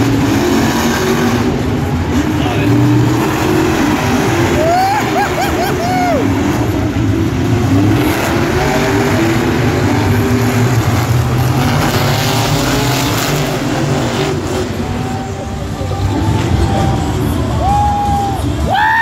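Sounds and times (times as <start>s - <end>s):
monster truck engines revving: 0.0s - 19.0s.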